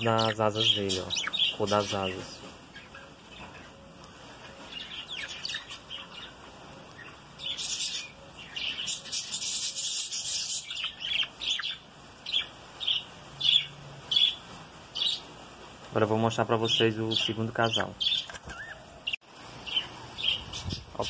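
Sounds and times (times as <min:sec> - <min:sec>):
budgerigars chattering: 0:00.0 - 0:03.8, 0:04.6 - 0:14.4, 0:15.0 - 0:15.2, 0:16.6 - 0:21.0.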